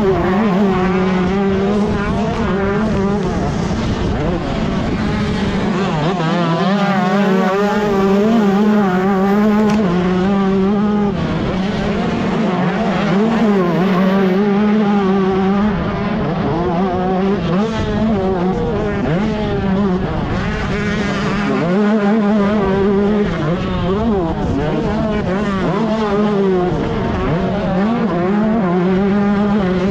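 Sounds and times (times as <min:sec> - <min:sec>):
motocross bike engine revving: 0:00.0 - 0:29.9.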